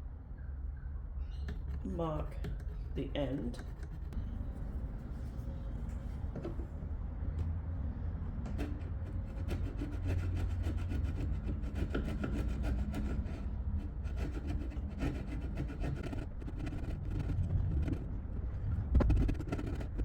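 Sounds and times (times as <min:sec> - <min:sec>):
low steady hum: 0:00.0 - 0:20.0
scratching and rubbing on wood: 0:01.4 - 0:06.6, 0:08.5 - 0:20.0.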